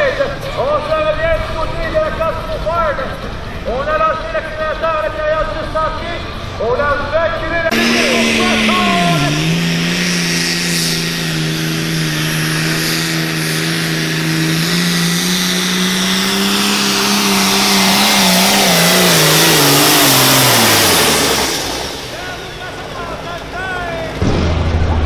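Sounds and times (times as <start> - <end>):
diesel tractor engine at full throttle: 0.0 - 25.0.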